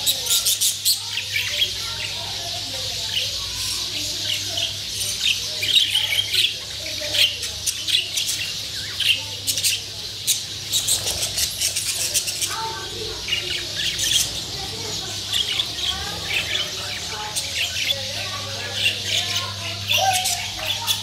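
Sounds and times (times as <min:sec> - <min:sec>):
budgerigars chirping: 0:00.0 - 0:21.0.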